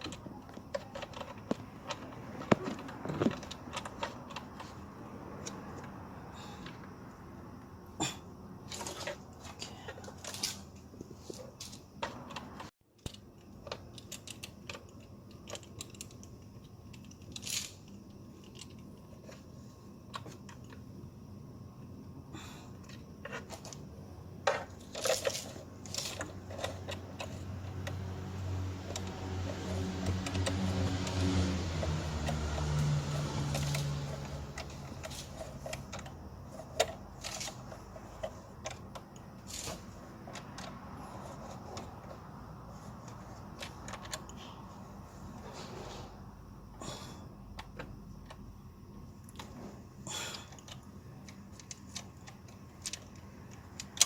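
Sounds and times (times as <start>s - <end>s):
small hard parts clicking: 0.0s - 6.9s, 8.6s - 21.0s, 22.7s - 44.8s, 50.3s - 54.0s.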